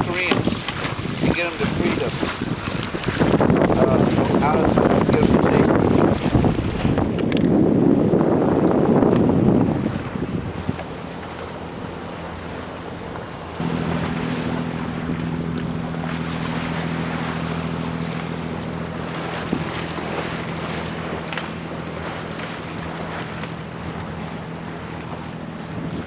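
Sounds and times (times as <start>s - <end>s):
low engine hum: 0.0s - 26.0s
water noise: 0.0s - 26.0s
wind buffeting microphone: 0.0s - 26.0s.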